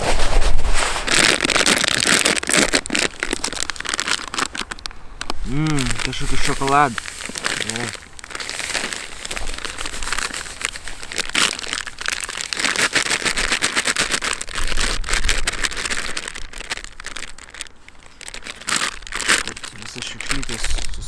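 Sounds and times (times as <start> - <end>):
foil packet crinkling: 0.0 - 21.0.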